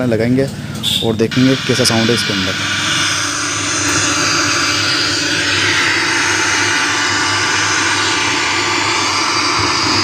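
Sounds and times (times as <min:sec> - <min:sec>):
low hum: 0:01.3 - 0:10.0
radio static hissing: 0:01.3 - 0:10.0.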